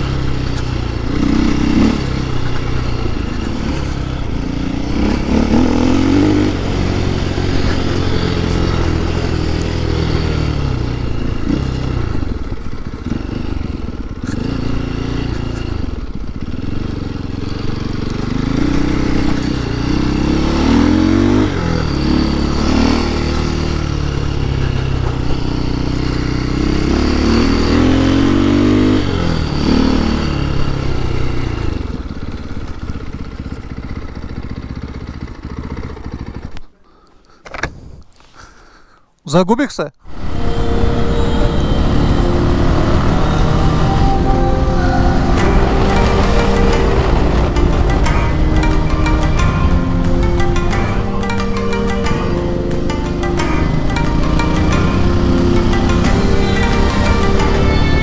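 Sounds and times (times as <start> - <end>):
motorcycle engine revving: 0.0 - 36.8, 40.0 - 58.0.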